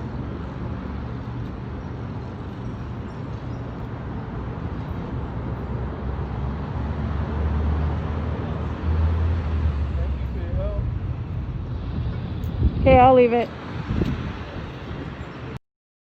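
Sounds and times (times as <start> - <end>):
rumble of passing traffic: 0.0 - 15.6.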